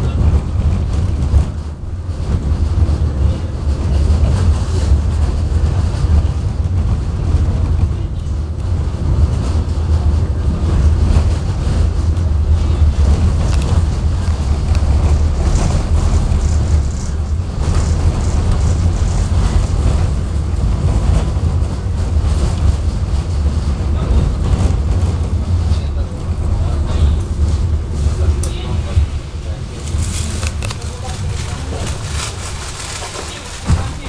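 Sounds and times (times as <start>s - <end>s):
tram wheels rumbling on rails: 0.0s - 34.0s.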